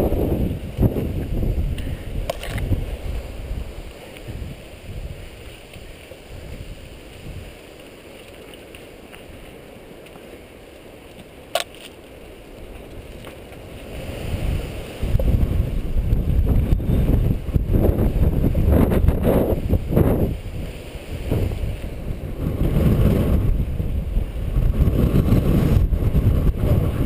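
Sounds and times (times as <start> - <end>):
wind buffeting microphone: 0.0 - 11.6, 12.2 - 27.0.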